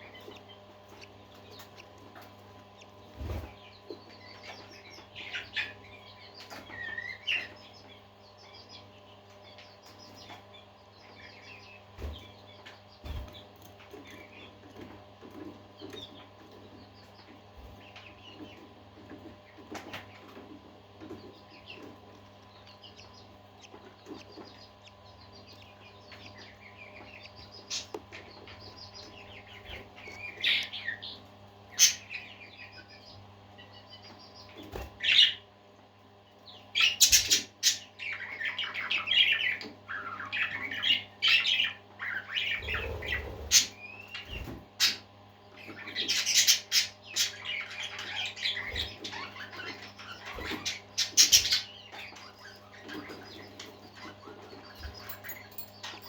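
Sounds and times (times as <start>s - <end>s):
parakeets chattering and chirping: 0.0s - 56.0s
steady low hum: 0.0s - 56.0s.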